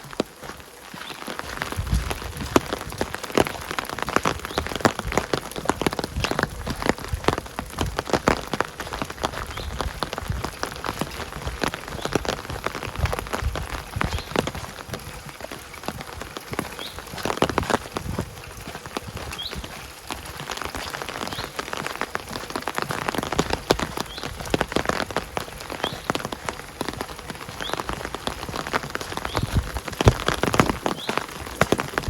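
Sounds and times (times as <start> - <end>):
rain pattering on surface: 0.0 - 32.0.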